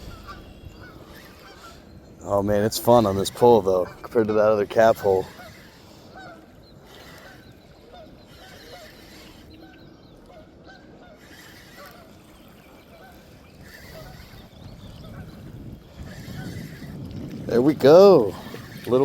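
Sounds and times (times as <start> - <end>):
birds honking: 0.0 - 19.0.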